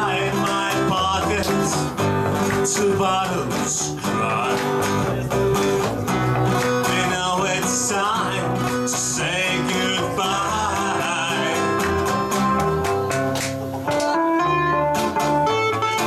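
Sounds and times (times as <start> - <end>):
acoustic guitar: 0.0 - 16.0
electric guitar: 0.0 - 16.0.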